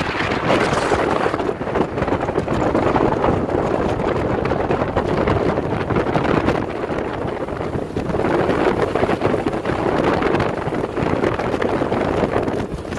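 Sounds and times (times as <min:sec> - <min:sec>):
outboard motor running: 0:00.0 - 0:12.9
water rushing against hull: 0:00.0 - 0:12.9
wind buffeting microphone: 0:00.0 - 0:12.9.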